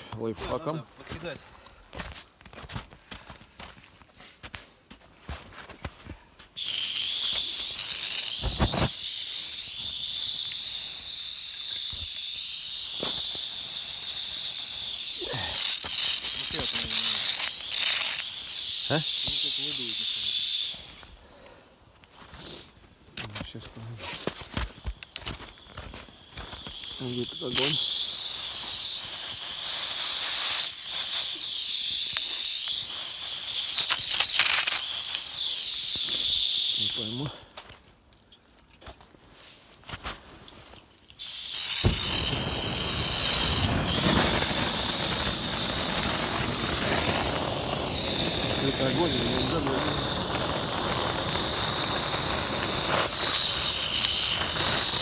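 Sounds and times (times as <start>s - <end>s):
sharp snaps and crackles: 2.0s - 55.0s
light hiss: 6.1s - 55.0s
high-pitched insect stridulation: 6.6s - 21.4s, 22.0s - 38.4s, 40.0s - 55.0s.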